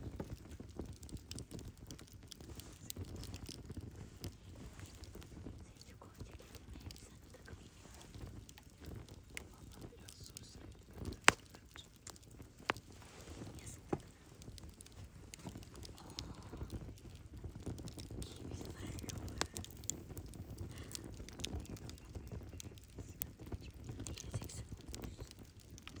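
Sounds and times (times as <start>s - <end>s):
firewood crackling and popping: 0.0s - 26.0s
low rush of flames: 0.0s - 26.0s.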